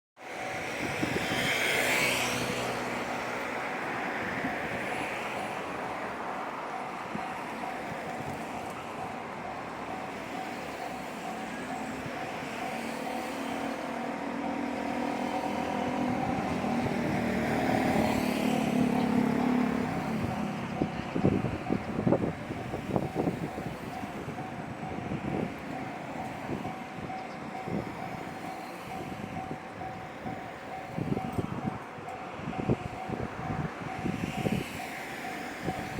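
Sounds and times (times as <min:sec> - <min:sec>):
diesel railcar engine: 0:00.2 - 0:35.9
level crossing warning bell: 0:00.2 - 0:35.9.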